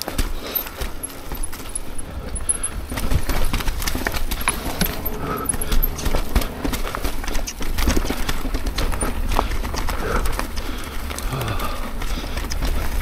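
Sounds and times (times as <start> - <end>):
bike clattering over rocks: 0.0 - 13.0
low rumble: 0.3 - 13.0.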